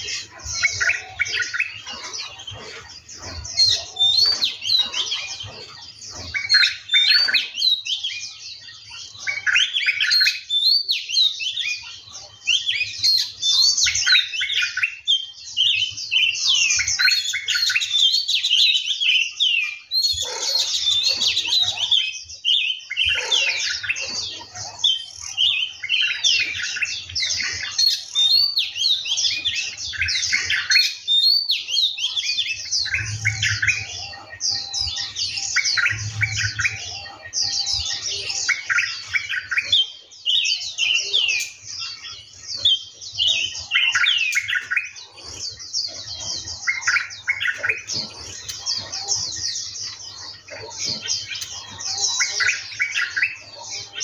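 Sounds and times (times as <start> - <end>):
birds chirping and whistling: 0.0 - 54.0.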